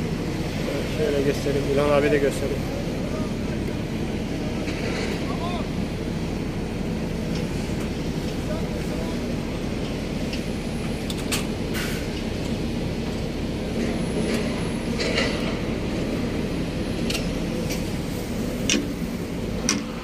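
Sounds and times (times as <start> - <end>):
construction machinery rumbling: 0.0 - 20.0.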